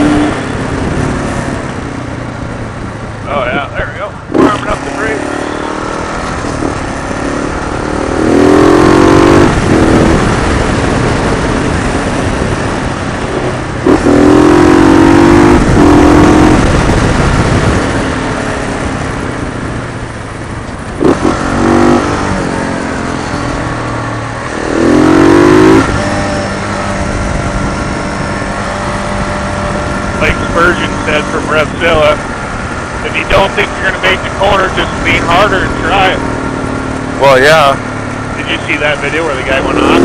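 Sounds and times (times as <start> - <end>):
motorcycle engine accelerating: 0.0 - 40.0
wind and road noise: 0.0 - 40.0.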